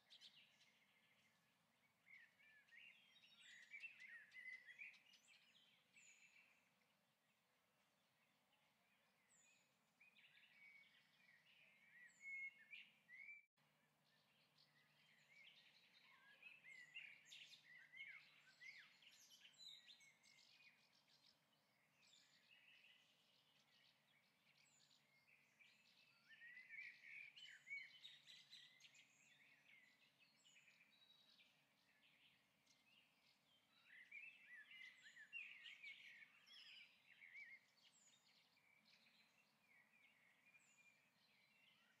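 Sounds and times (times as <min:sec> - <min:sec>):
birds twittering and chirping: 0:00.0 - 0:42.0.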